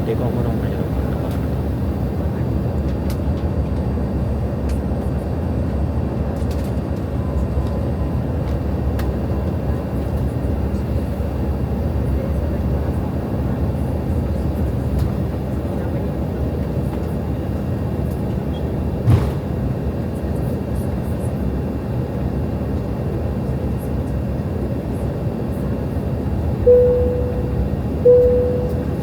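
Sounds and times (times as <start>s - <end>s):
airliner low rumble: 0.0s - 29.0s.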